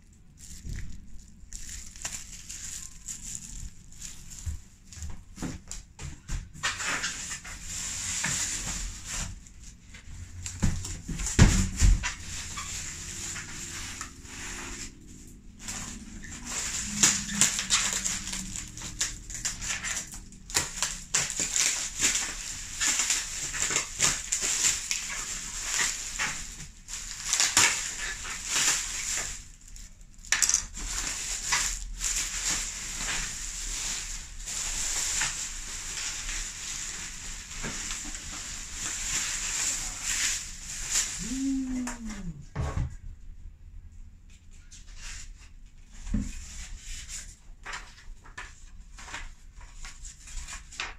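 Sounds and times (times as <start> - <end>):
bubble wrap crackling: 0.0 - 42.4.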